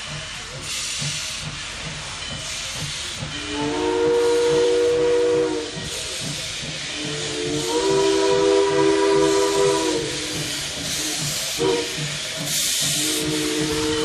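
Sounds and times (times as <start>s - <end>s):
steam hissing: 0.0s - 14.0s
locomotive chime whistle: 2.1s - 14.0s.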